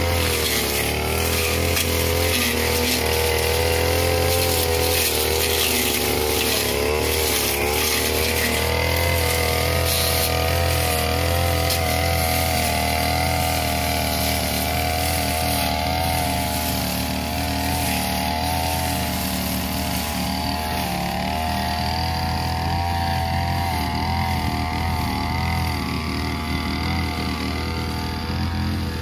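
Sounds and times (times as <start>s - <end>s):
brush cutter engine running: 0.0s - 29.0s.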